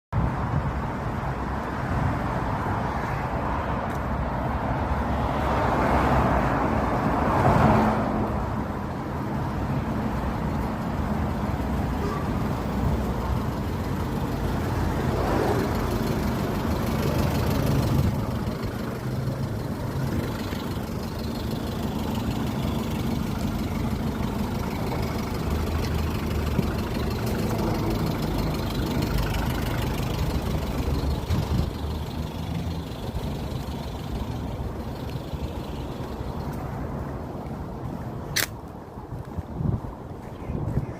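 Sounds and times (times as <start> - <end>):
road traffic rumble: 0.1 - 40.9.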